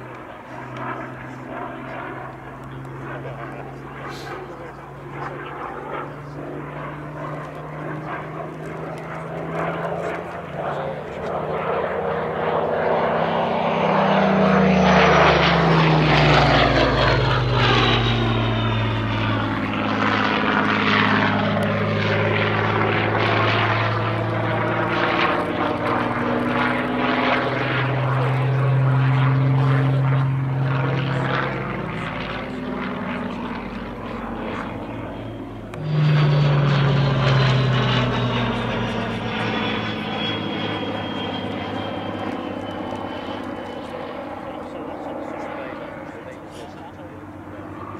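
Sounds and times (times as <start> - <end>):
propeller plane flying past: 0.0 - 47.9.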